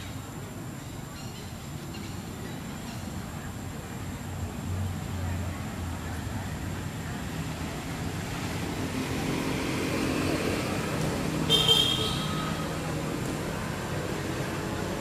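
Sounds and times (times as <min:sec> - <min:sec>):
vehicle engine humming: 0:02.3 - 0:15.0.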